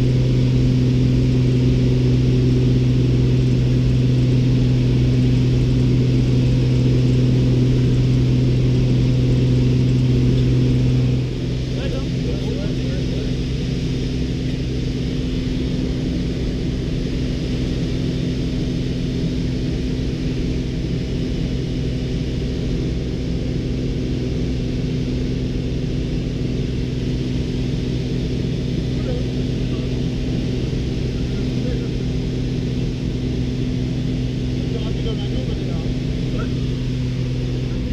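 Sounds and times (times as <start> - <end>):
light aircraft engine drone: 0.0 - 37.9.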